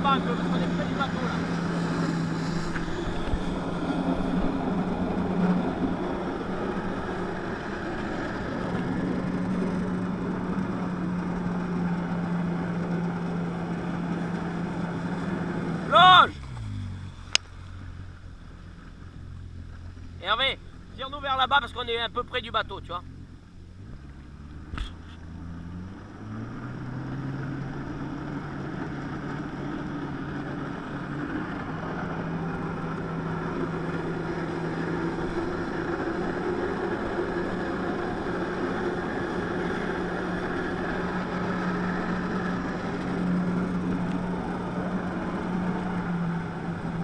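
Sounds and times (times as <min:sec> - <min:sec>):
personal watercraft engine: 0:00.0 - 0:47.0.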